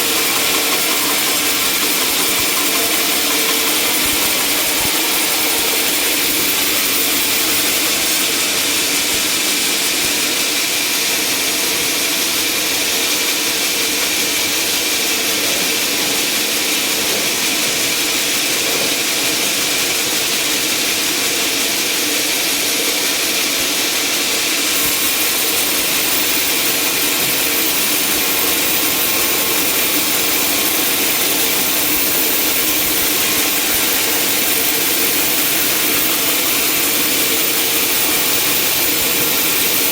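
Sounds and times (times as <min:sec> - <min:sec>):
sawmill engine and saw blade: 0:00.0 - 0:39.9.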